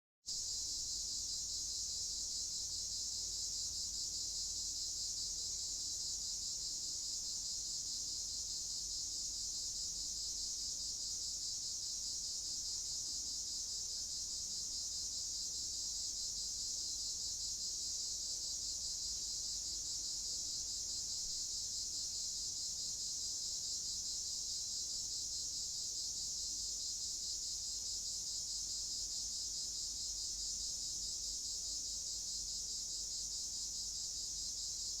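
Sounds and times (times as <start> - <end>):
crickets chirping: 0.4 - 35.0.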